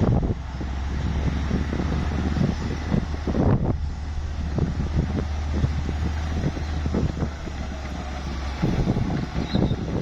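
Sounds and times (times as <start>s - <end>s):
bulldozer diesel engine droning: 0.0s - 10.0s
wind buffeting microphone: 0.0s - 10.0s.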